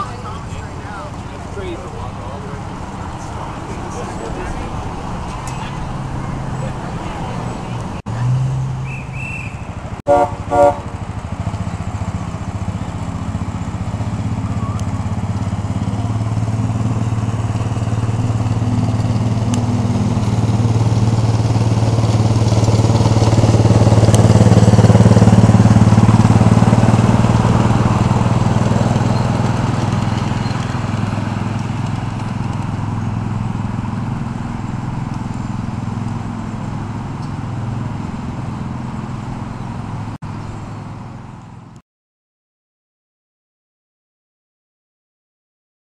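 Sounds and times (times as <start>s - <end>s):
engine running steadily: 0.0s - 41.8s.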